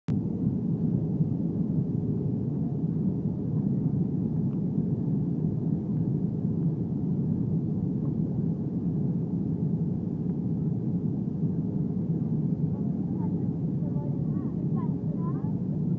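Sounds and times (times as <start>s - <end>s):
airliner cabin engine rumble: 0.1s - 15.9s.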